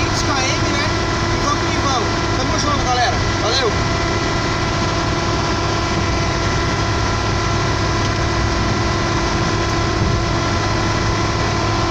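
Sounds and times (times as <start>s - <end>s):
engine and road drone: 0.0s - 11.9s.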